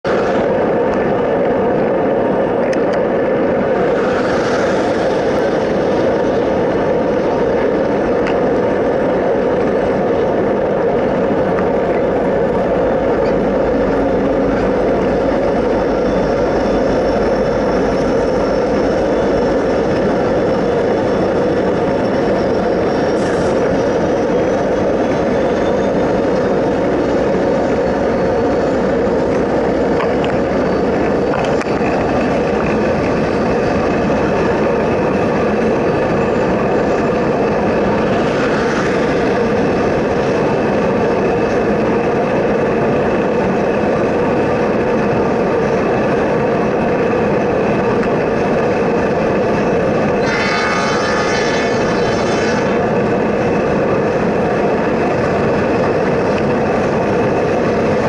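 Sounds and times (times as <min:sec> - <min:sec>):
freight train rumble: 0:00.0 - 0:58.0
road noise: 0:00.0 - 0:58.0
wind noise: 0:00.0 - 0:58.0.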